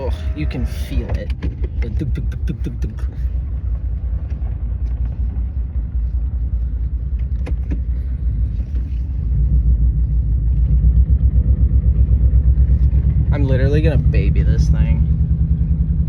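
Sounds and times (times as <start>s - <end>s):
car engine running rough: 0.0s - 16.0s.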